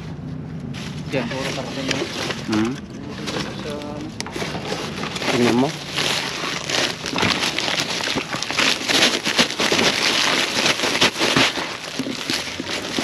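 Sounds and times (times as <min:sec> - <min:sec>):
plastic bags rustling: 0:00.8 - 0:13.0.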